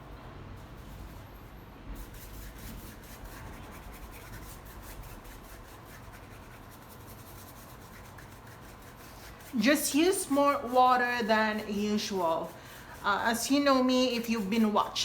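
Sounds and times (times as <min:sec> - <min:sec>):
paintbrush stroking on canvas: 0:02.0 - 0:15.0.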